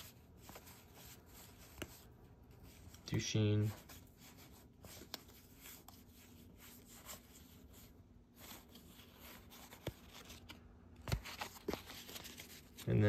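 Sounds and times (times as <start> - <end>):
cardboard cards rustling: 0.0 - 13.0.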